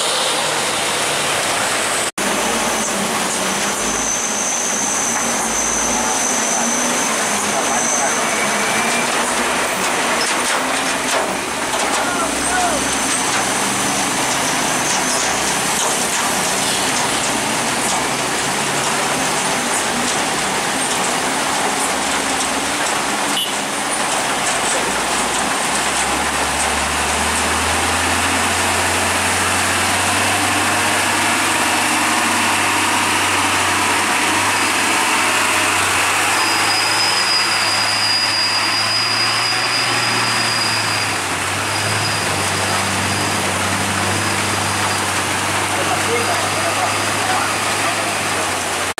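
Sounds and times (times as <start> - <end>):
heavy rain on road: 0.0 - 48.9
truck diesel engine drone: 0.0 - 48.9.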